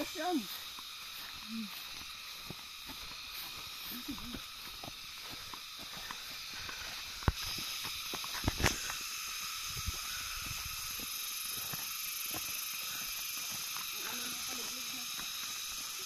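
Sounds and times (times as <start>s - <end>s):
footsteps on dirt trail: 0.0s - 16.0s
steady high hiss: 0.0s - 16.0s.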